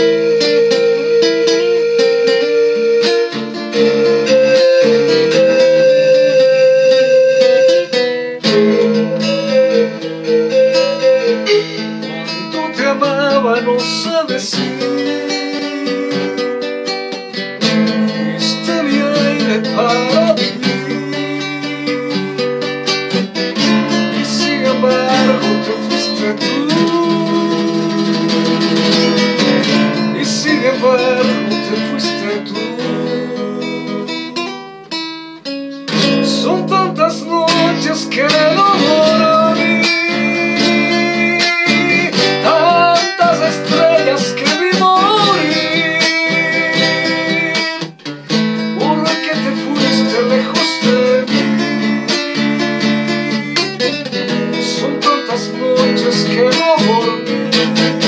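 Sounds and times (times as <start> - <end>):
acoustic guitar ballad: 0.0 - 58.0.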